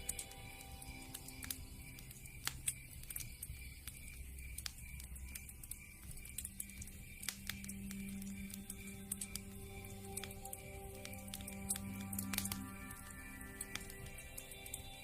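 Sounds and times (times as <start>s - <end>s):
soft ambient music: 0.0s - 15.0s
wood fire crackling: 0.0s - 15.0s.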